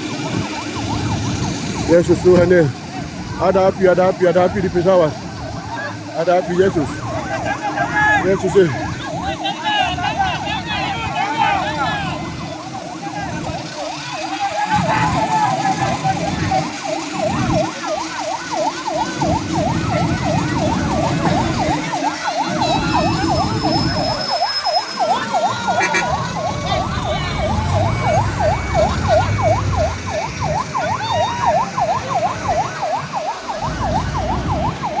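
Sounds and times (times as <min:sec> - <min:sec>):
emergency siren yelping: 0:00.0 - 0:35.0.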